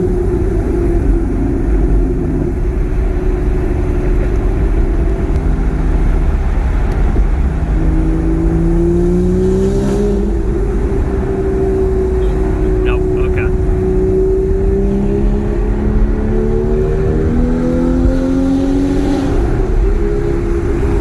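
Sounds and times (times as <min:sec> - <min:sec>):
car engine rumbling and revving: 0:00.0 - 0:21.0.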